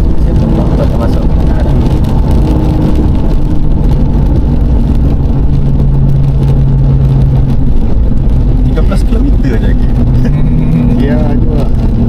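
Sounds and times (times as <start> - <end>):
car engine hum: 0.0 - 12.0
loud road rumble: 0.0 - 12.0.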